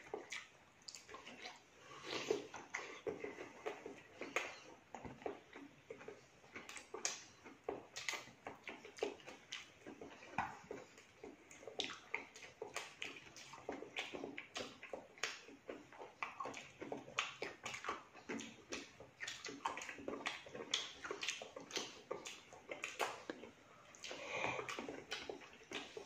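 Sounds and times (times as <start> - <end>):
wet chewing and lip-smacking: 0.0 - 26.0.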